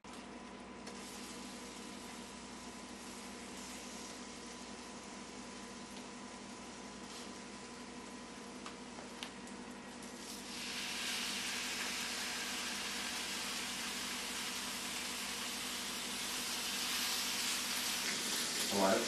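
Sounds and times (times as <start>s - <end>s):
sausage patties sizzling: 0.1s - 19.0s
bacon sizzling on griddle: 0.8s - 9.1s, 10.0s - 19.0s.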